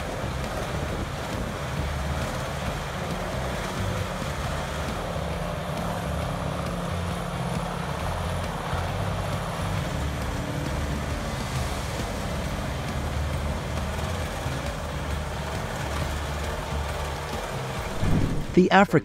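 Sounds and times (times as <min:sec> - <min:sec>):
wood grinder running under load: 0:00.0 - 0:18.0.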